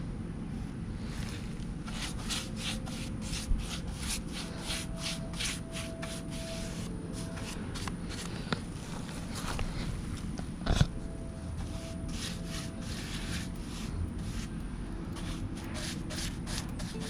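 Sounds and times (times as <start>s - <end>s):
paintbrush swishing on wood: 1.2s - 9.5s, 11.6s - 17.0s.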